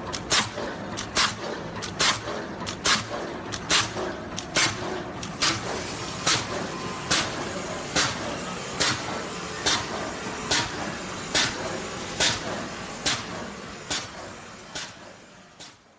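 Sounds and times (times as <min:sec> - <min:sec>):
mechanical hum: 0:00.0 - 0:15.9.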